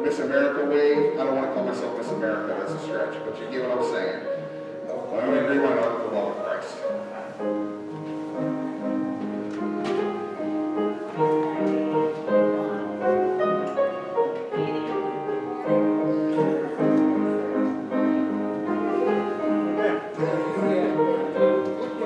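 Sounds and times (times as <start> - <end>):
piano chords and melody: 0.0 - 22.0.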